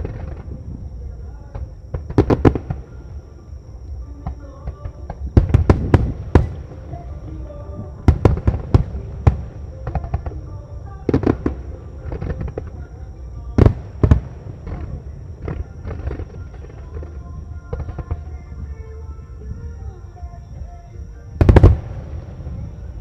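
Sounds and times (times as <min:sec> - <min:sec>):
fireworks bursting with loud bangs: 0:00.0 - 0:23.0.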